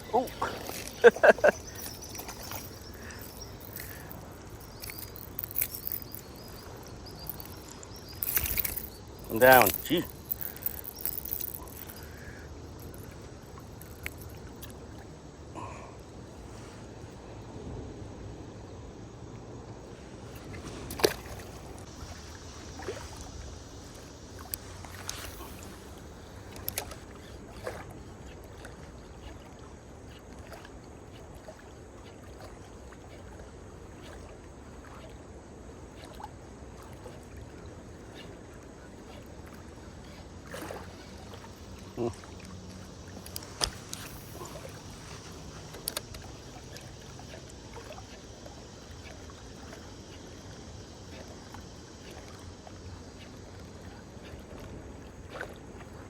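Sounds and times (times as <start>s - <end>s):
river water flowing: 0.0s - 17.8s, 19.0s - 56.0s
wind: 0.0s - 56.0s.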